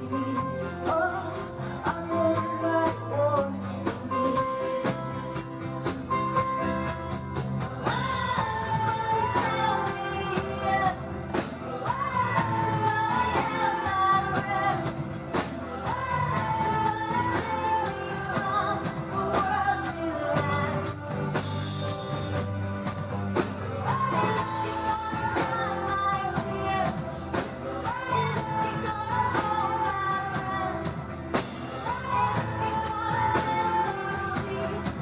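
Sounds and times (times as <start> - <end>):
woman singing: 0.0 - 6.4, 7.8 - 35.0
drums keeping steady beat: 0.0 - 35.0
live pop-rock band playing: 0.0 - 35.0.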